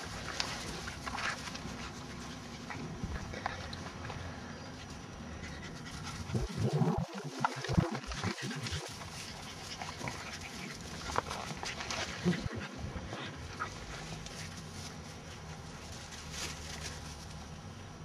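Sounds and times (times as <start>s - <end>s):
dog and puppies making low sounds: 0.0s - 15.7s.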